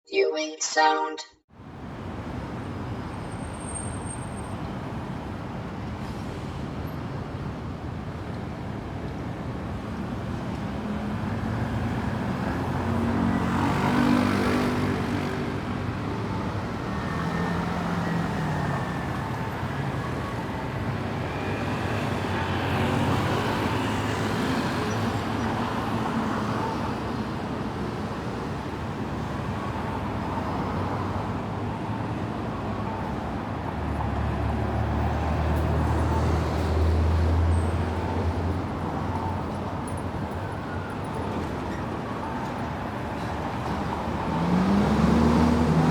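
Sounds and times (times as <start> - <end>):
road traffic noise: 1.6 - 45.9.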